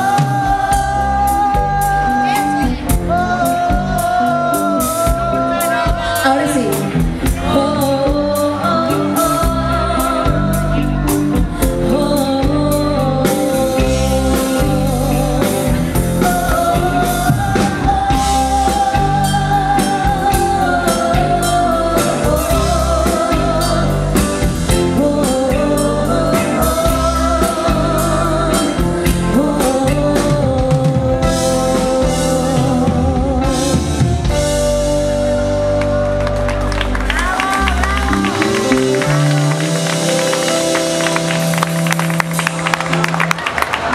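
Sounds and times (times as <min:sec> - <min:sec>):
woman singing with vibrato: 0:00.0 - 0:34.6, 0:37.0 - 0:39.0
drum kit steady beat: 0:00.0 - 0:36.0
electric bass: 0:00.0 - 0:43.9
electric guitar: 0:00.0 - 0:43.9
keyboards: 0:00.0 - 0:43.9.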